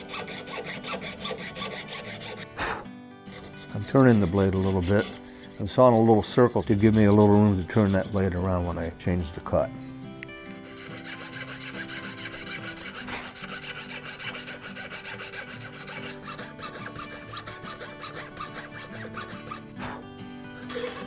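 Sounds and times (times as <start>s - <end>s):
fine saw cutting shell: 0.0s - 8.9s, 10.2s - 21.0s.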